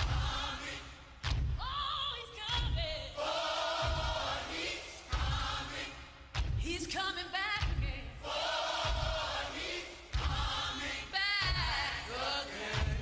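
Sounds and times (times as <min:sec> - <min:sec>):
choir singing gospel: 0:00.0 - 0:13.0.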